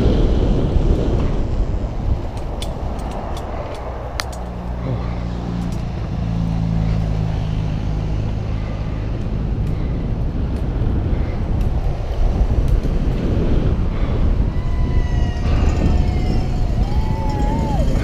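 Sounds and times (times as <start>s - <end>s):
tyres humming on tarmac: 0.0s - 18.0s
wind rushing over microphone: 0.0s - 18.0s
bike clicks and rattles: 0.9s - 7.1s, 8.2s - 18.0s.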